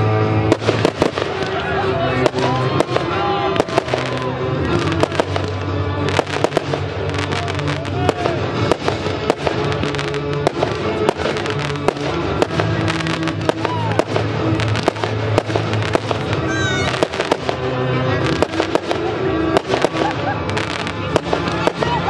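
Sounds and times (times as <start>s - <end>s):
fireworks bursting: 0.0s - 22.0s
music: 0.0s - 22.0s.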